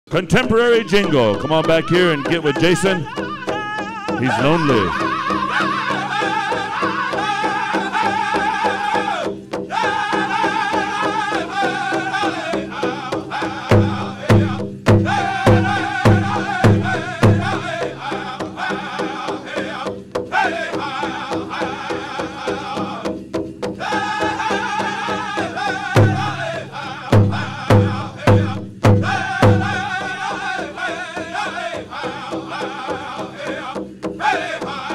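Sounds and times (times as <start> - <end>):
steady beat on large drum: 0.1 - 34.9
loud accented drum strikes: 0.2 - 34.9
group singing: 0.9 - 34.9.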